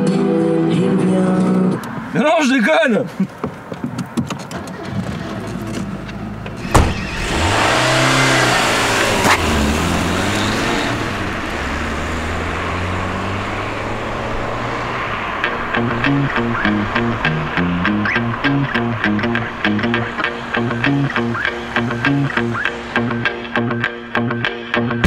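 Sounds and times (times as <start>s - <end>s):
car engine and tyre noise: 0.8s - 24.2s.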